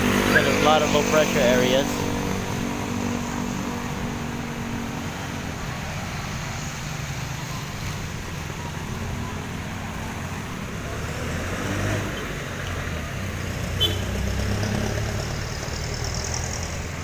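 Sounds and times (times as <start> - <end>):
vehicle engines and road noise: 0.0 - 17.0.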